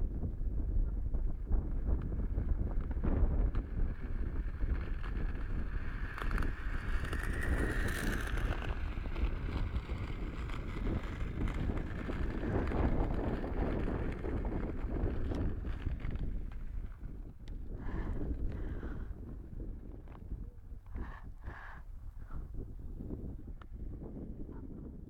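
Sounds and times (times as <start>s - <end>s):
wind buffeting microphone: 0.0s - 25.0s
roller-skate wheels on concrete: 0.2s - 24.8s.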